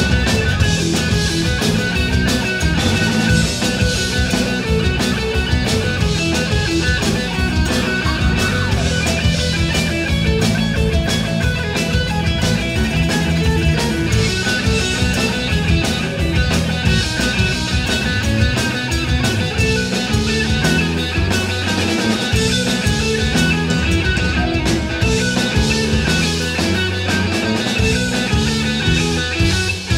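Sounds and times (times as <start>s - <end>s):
drum beats: 0.0s - 29.9s
electric guitar: 0.0s - 29.9s
rock band playing: 0.0s - 29.9s.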